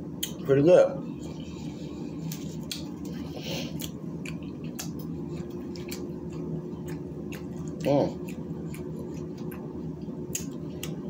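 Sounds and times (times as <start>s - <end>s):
steady low hum: 0.0s - 11.0s
chewing with wet mouth clicks: 0.2s - 0.4s, 2.2s - 11.0s.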